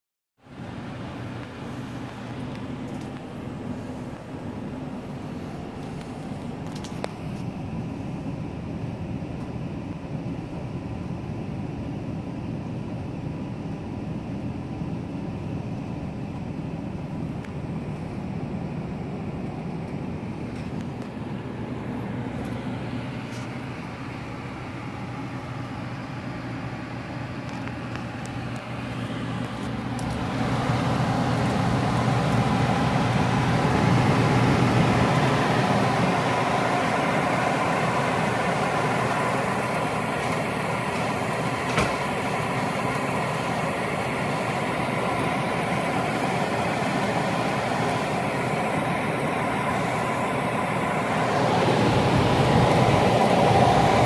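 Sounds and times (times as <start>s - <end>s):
air conditioner humming: 0.4s - 54.0s.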